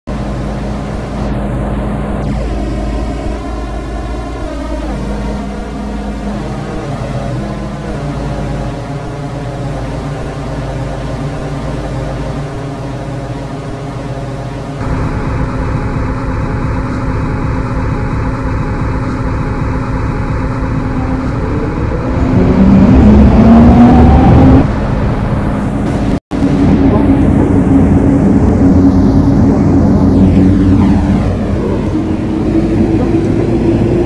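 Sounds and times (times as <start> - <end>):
electric train humming: 0.1 - 34.0
traction motor whine: 0.1 - 34.0.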